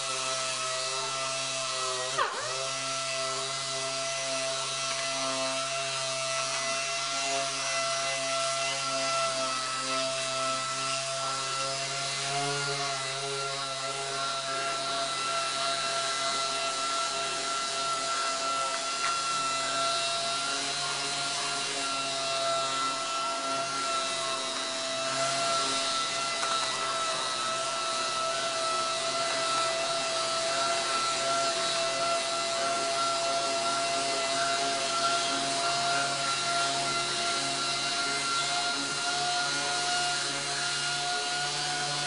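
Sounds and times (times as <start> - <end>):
orbital sander whining: 0.0 - 42.0.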